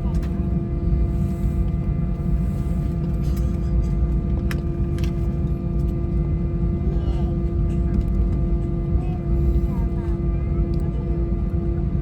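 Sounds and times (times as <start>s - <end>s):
jet engines idling in cabin: 0.0s - 12.0s.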